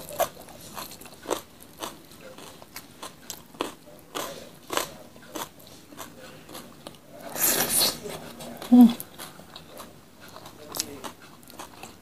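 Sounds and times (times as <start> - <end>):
crisp crunching chewing: 0.0 - 12.0.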